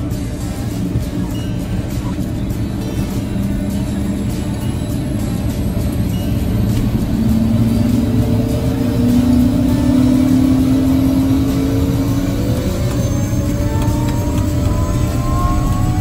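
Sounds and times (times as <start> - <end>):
aircraft engine running up: 0.0 - 16.0.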